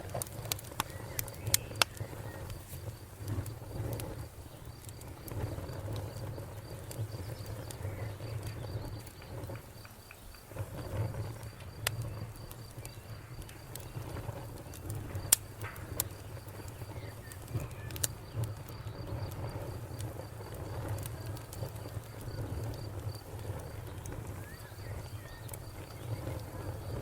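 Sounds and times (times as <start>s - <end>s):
burning wood popping: 0.0s - 27.0s
low rumble of flames: 0.0s - 27.0s.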